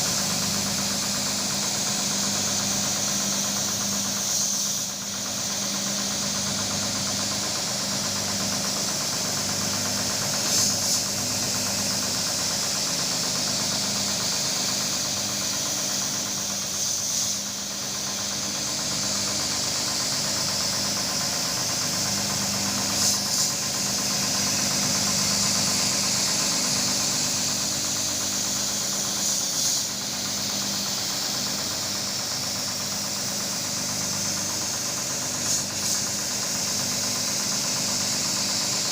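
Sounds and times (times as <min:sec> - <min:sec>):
carpet washing machine running: 0:00.0 - 0:38.9.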